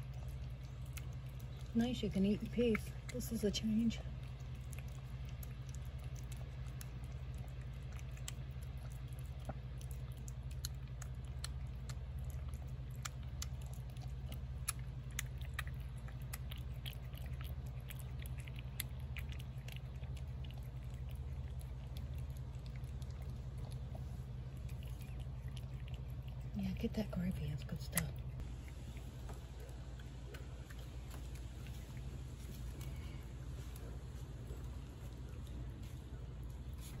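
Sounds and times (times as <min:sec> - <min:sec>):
cat chewing and lapping food: 0:00.0 - 0:37.0
steady low hum: 0:00.0 - 0:37.0.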